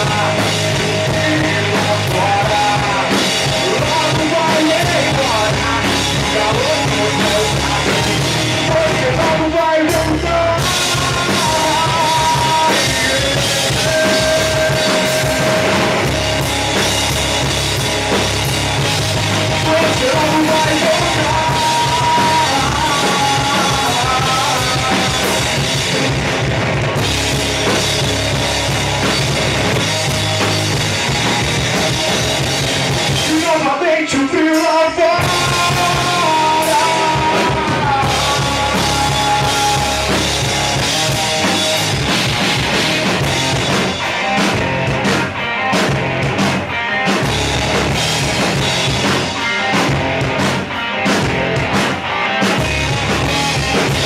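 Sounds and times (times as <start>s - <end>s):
drums: 0.0s - 54.0s
rock band playing: 0.0s - 54.0s.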